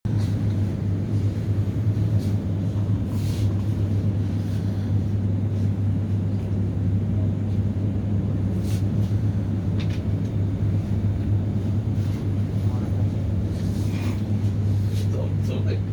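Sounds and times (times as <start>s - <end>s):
heavy engine droning: 0.1s - 15.9s.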